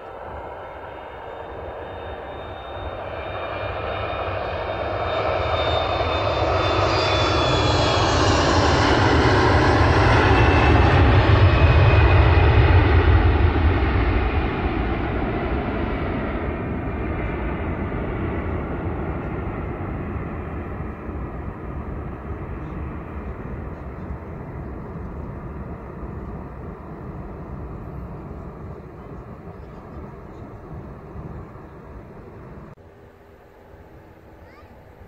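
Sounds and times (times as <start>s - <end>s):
jet airliner engines rumbling: 0.0s - 35.0s.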